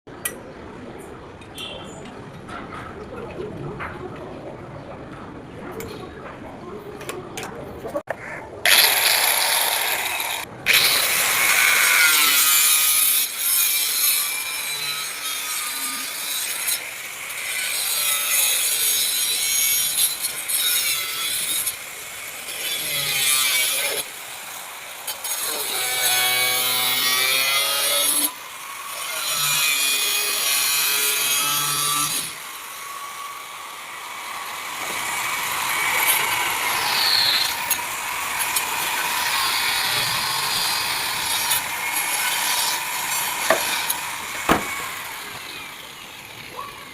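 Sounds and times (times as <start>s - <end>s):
sawing: 8.6s - 46.9s.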